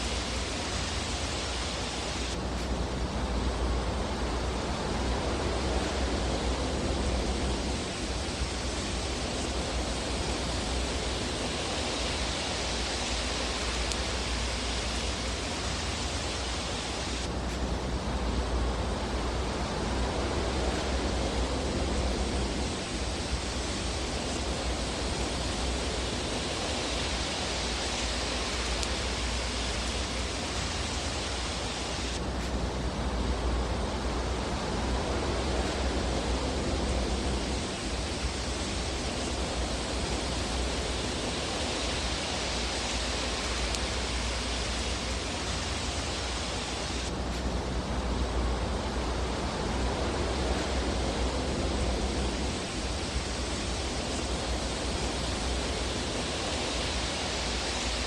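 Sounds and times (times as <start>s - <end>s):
fire burning with rushing hiss: 0.0s - 58.0s.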